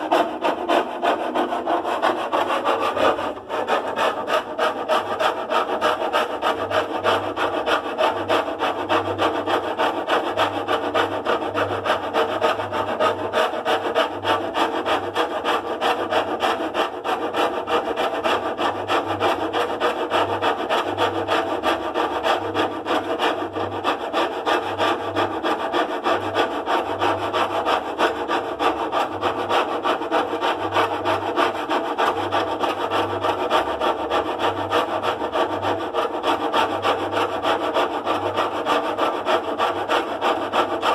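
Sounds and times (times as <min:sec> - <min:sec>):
rhythmic rasping: 0:00.0 - 0:40.9.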